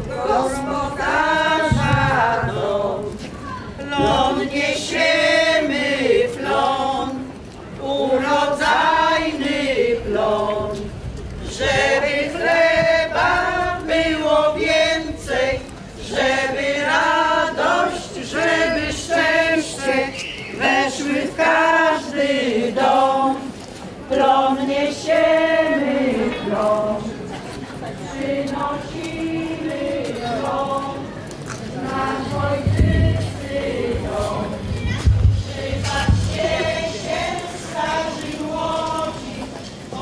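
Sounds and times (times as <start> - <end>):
women singing unaccompanied: 0.0 - 27.3, 27.9 - 40.0.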